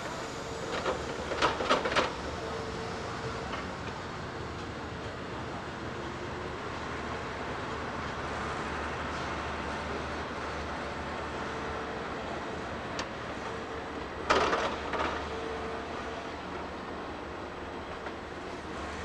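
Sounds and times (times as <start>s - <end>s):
faint train whine: 0.0s - 19.0s.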